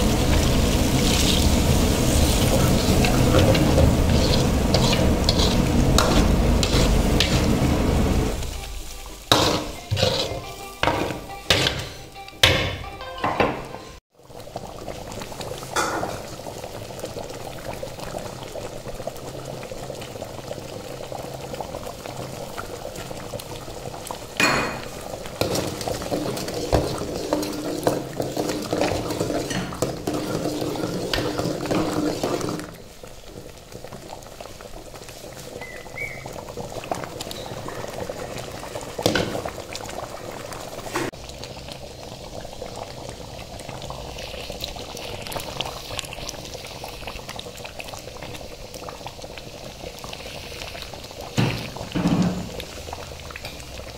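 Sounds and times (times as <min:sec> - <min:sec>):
gravy simmering and bubbling: 0:00.0 - 0:12.3, 0:14.1 - 0:53.9.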